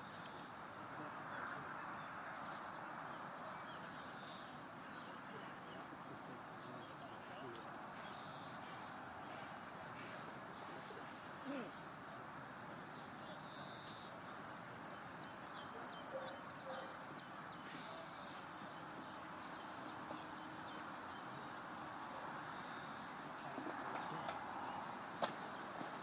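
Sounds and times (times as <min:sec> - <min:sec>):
low outdoor hiss: 0:00.0 - 0:26.0
small birds chirping: 0:00.0 - 0:26.0.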